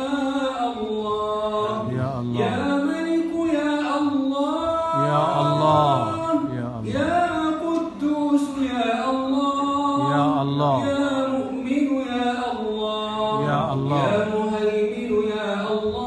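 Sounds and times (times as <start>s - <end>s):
man chanting through loudspeaker: 0.0s - 16.0s.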